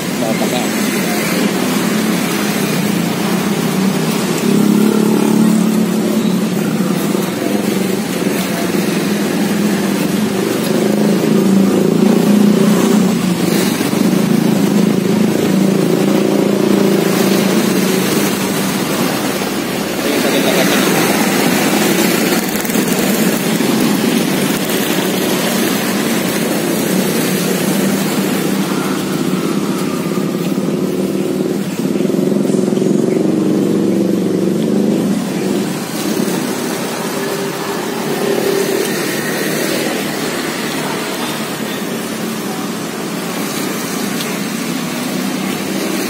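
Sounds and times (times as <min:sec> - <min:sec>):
motorcycle engines passing: 0:00.0 - 0:46.0
road traffic: 0:00.0 - 0:46.0.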